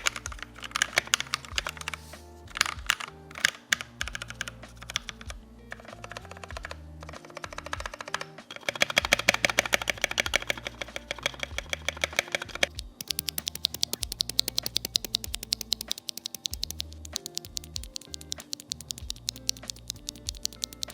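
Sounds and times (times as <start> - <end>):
background music: 0.0 - 20.9
mechanical keyboard typing: 0.0 - 20.9.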